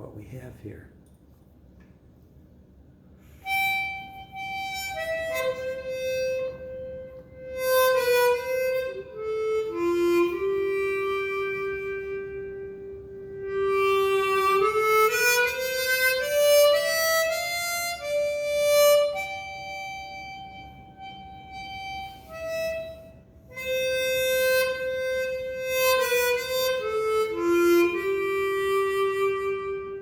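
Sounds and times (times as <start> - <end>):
harmonica melody: 3.2 - 30.0.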